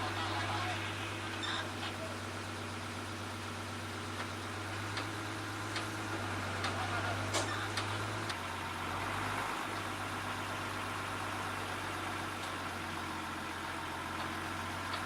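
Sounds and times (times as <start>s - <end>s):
crane truck engine idling: 0.0s - 15.0s.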